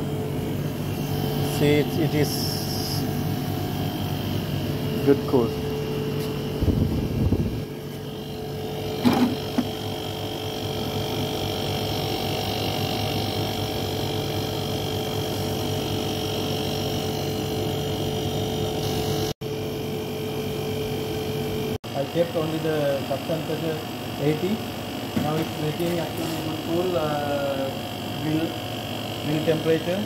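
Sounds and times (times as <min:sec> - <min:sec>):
air conditioner humming: 0:00.0 - 0:17.2, 0:20.2 - 0:30.0.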